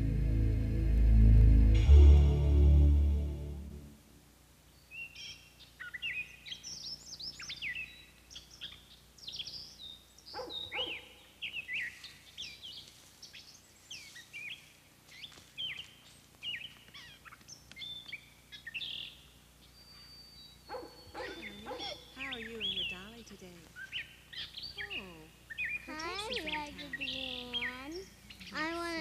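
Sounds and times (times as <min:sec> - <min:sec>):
songbirds chirping: 0:04.2 - 0:29.0.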